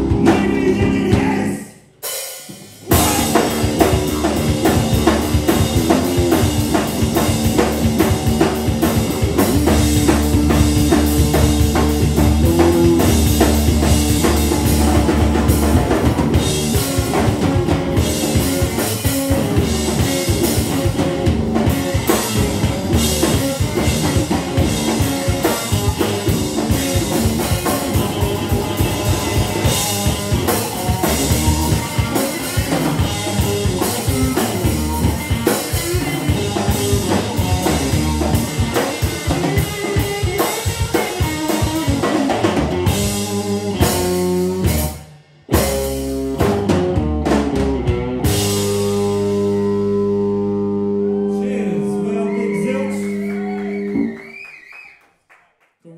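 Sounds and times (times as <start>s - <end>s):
drum kit: 0.0s - 50.6s
electric guitar: 2.4s - 54.3s.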